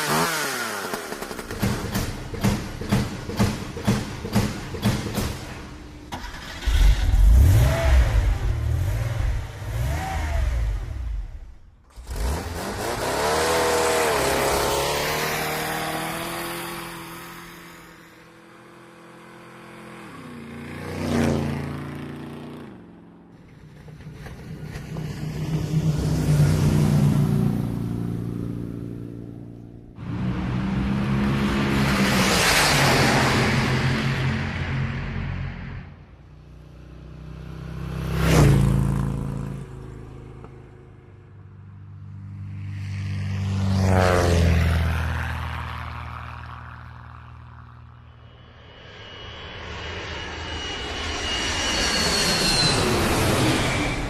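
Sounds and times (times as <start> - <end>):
vehicles passing by: 0.0 - 49.6.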